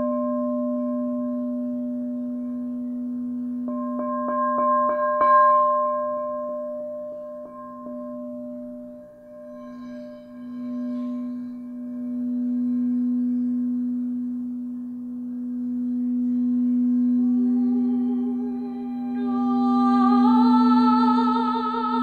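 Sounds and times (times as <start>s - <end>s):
singing bowl humming: 0.0s - 22.0s.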